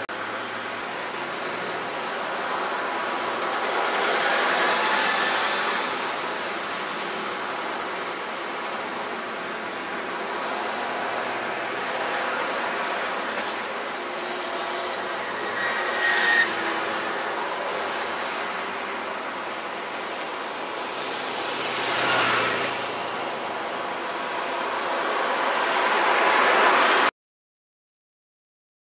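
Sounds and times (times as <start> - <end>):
passing vehicles: 0.1 - 27.1.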